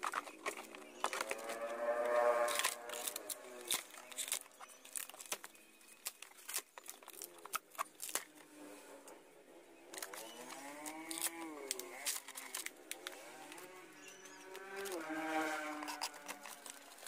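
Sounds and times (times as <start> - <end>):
plywood cracking and snapping: 0.0 - 8.5, 9.9 - 17.0.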